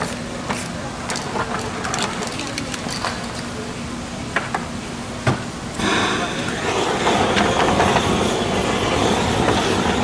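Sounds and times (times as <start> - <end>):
steady low street hum: 0.0 - 10.0.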